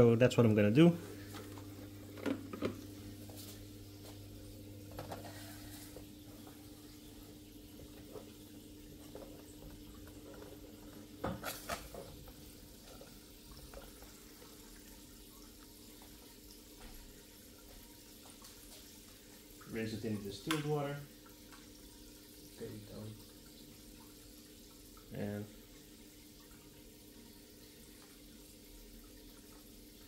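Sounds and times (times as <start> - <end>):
aquarium filter hum: 0.0 - 30.0
faint water trickle: 0.0 - 30.0.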